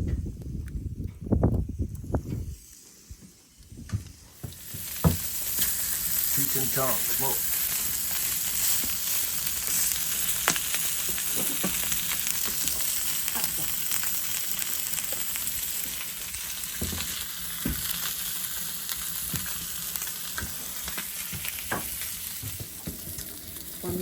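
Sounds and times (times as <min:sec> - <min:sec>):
food sizzling in a frying pan: 0:04.0 - 0:24.0.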